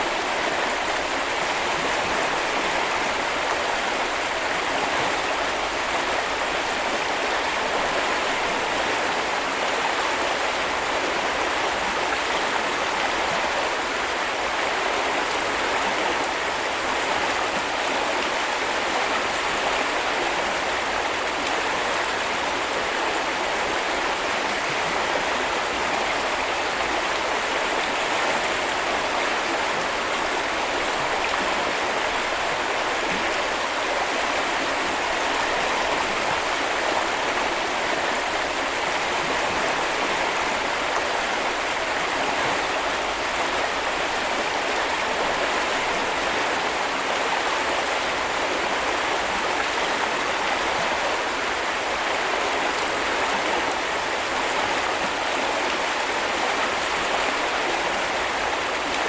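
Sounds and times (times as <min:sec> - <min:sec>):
brook flowing: 0:00.0 - 0:59.0.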